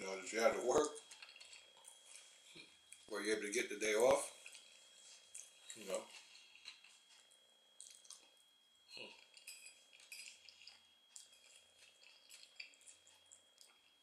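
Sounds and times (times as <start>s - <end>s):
soft chewing: 0.5s - 3.1s, 3.9s - 14.0s.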